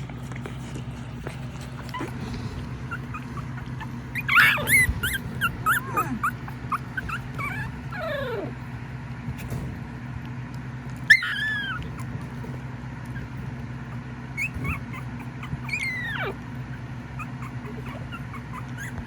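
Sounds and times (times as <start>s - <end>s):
puppies whimpering and yipping: 0.0s - 8.9s, 11.0s - 19.0s
steady low hum: 0.0s - 19.0s.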